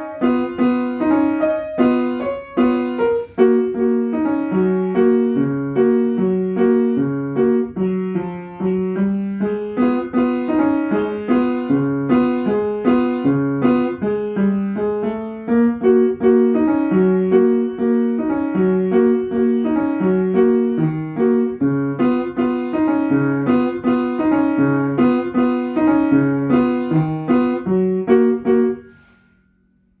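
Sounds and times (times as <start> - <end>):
piano playing a waltz: 0.0 - 29.2.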